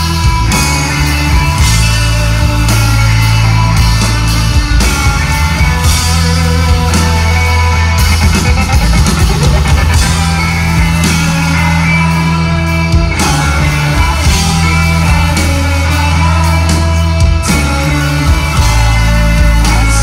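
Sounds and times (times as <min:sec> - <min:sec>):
electric guitars: 0:00.0 - 0:20.0
long held bass notes: 0:00.0 - 0:20.0.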